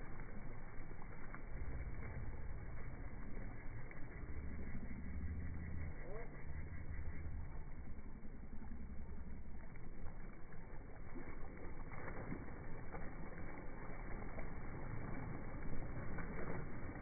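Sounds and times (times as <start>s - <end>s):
water splashes: 0.0s - 17.0s
wind: 0.0s - 17.0s.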